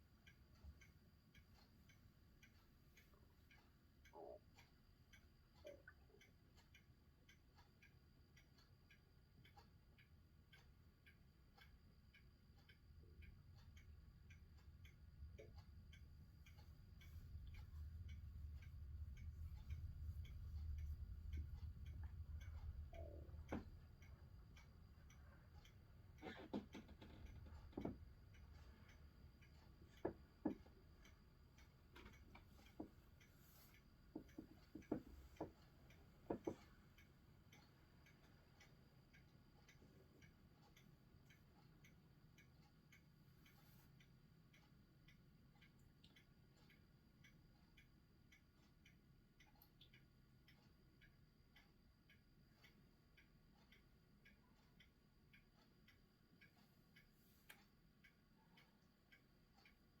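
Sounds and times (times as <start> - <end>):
faint repeating ticking: 0.0 - 60.0.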